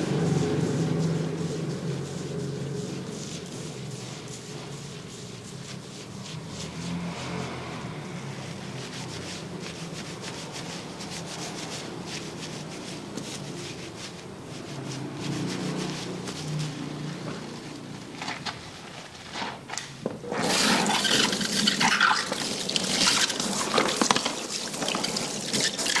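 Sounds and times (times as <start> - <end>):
fingers scrubbing lathered hair: 0.0 - 18.1, 20.4 - 26.0.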